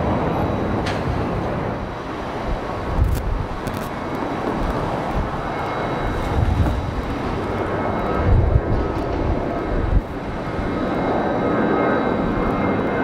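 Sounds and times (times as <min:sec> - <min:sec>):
jet engines rushing: 0:00.0 - 0:13.0
wind buffeting microphone: 0:00.0 - 0:13.0.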